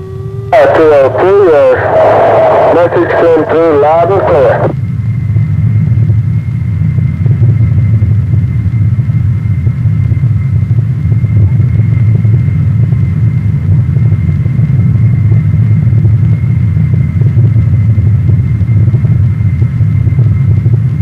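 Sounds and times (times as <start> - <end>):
jet engine whine: 0.0 - 21.0
jet engines rumbling: 0.0 - 21.0.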